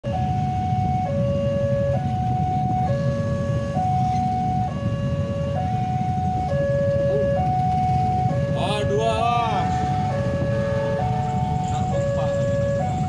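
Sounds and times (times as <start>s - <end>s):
motorcycle engines idling: 0.3s - 13.0s.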